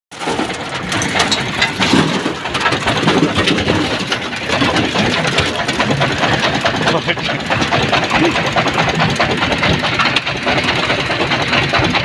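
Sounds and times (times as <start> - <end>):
excavator diesel engine: 0.1 - 12.0
machine and bucket clanking: 0.1 - 12.0.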